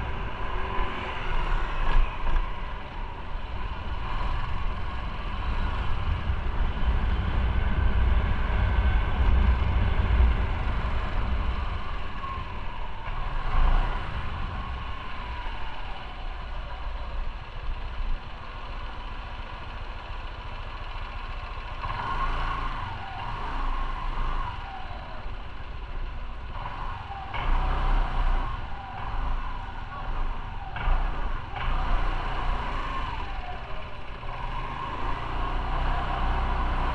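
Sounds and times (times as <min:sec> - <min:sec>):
wind and road noise: 0:00.0 - 0:36.9.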